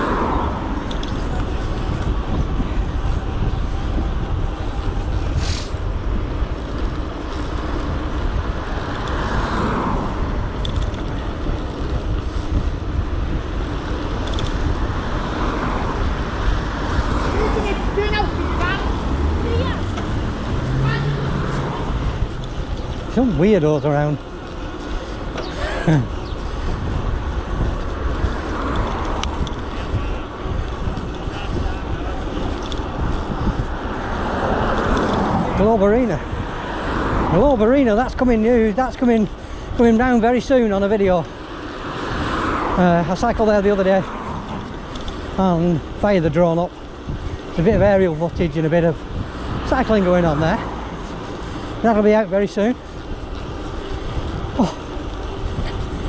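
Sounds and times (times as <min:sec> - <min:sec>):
road traffic: 0:00.0 - 0:56.0
vehicle passing: 0:00.0 - 0:56.0
wind rumbling on microphone: 0:00.0 - 0:56.0.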